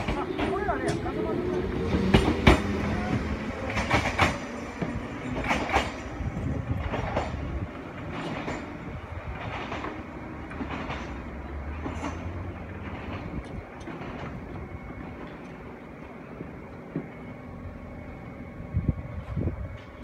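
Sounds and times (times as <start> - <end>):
train wheels clacking on rail joints: 0.0 - 17.2
train low running rumble: 0.0 - 20.0.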